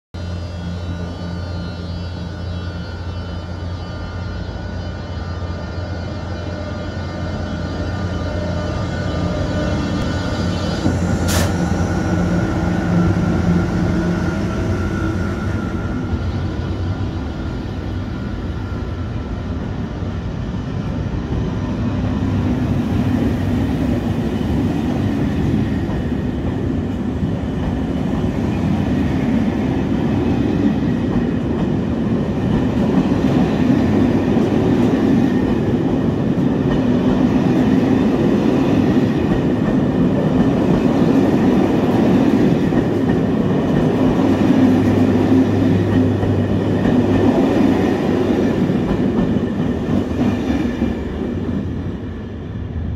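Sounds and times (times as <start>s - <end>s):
locomotive humming tone: 0.2s - 52.9s
train wheels rumbling on rail: 0.2s - 52.9s.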